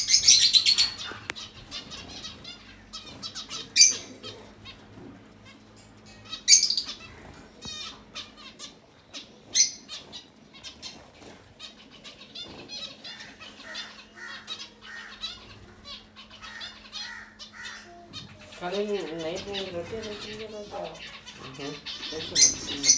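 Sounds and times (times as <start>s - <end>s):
finches chirping: 0.0s - 22.9s
wings fluttering: 0.1s - 22.9s.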